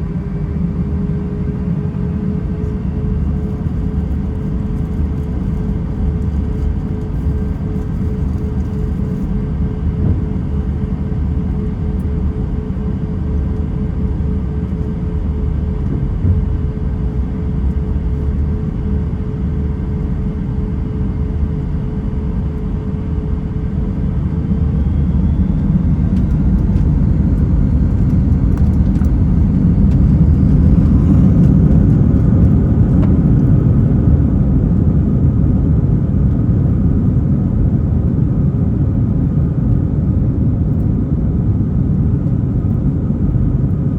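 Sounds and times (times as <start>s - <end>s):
jet engine rising whine: 0.0s - 43.9s
jet engines rumbling: 0.0s - 43.9s.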